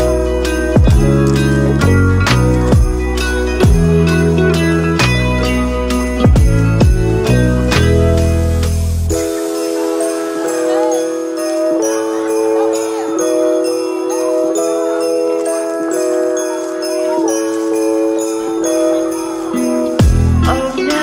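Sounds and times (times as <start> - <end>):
instrumental christmas music: 0.0 - 21.0
jingle bells shaking: 0.0 - 21.0.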